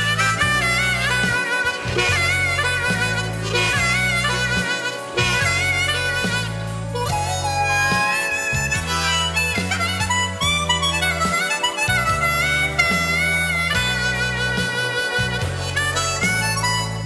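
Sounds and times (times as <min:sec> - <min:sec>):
harmonica playing slow blues: 0:00.0 - 0:17.0
low bass line: 0:00.0 - 0:17.0.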